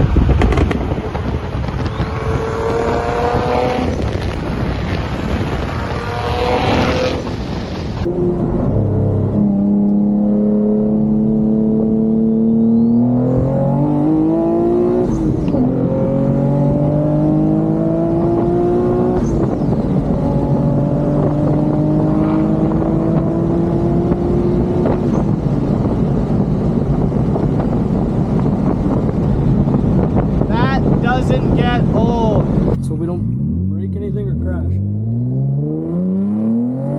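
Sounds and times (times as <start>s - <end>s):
car engine under full throttle: 0.0s - 36.9s.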